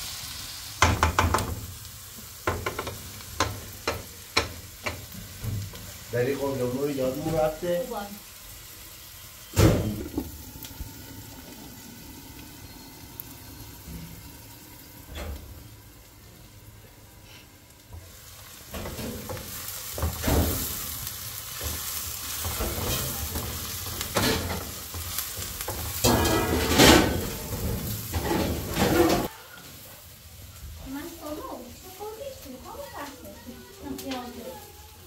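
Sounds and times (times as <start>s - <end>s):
onions sizzling in oil: 0.0s - 35.0s.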